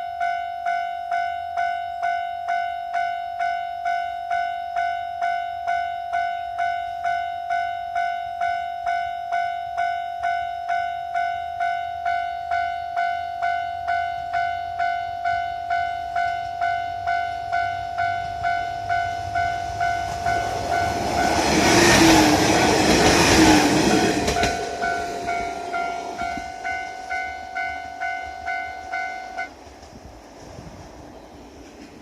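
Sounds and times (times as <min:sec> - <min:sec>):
level crossing warning bell: 0:00.0 - 0:29.5
diesel railcar passing: 0:00.0 - 0:32.0.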